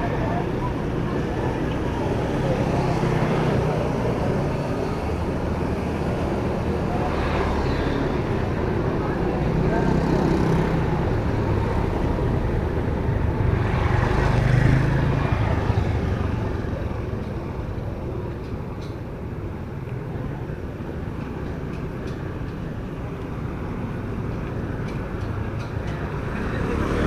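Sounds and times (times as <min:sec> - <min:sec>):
steady hum of traffic: 0:00.0 - 0:27.0.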